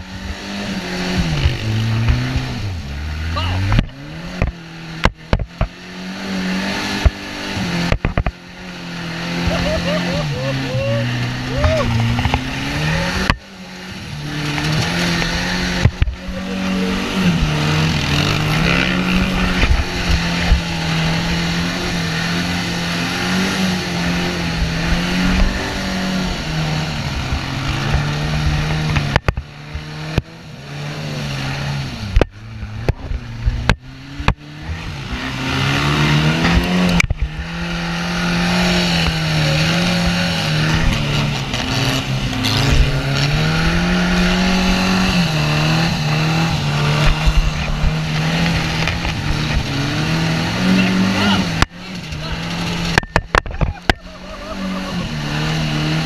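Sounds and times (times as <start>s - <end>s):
buggy engine revving: 0.0s - 56.0s.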